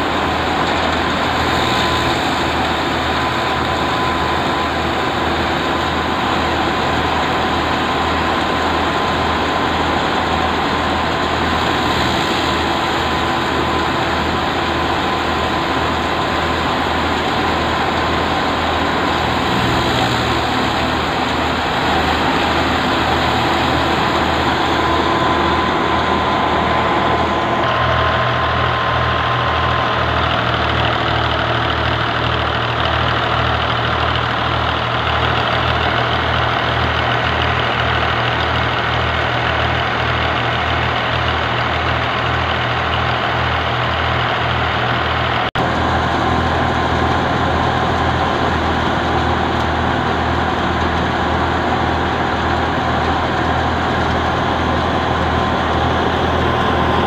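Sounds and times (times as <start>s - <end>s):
diesel tractor engine pulsing: 0.0s - 57.0s
thresher whine: 0.0s - 57.0s.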